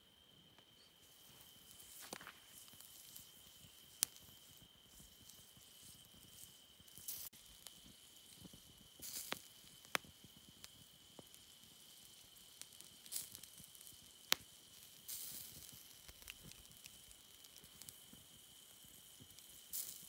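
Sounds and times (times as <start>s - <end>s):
hissing flare-ups: 0.0s - 20.0s
meat sizzling over coals: 0.0s - 20.0s
embers popping: 0.3s - 20.0s.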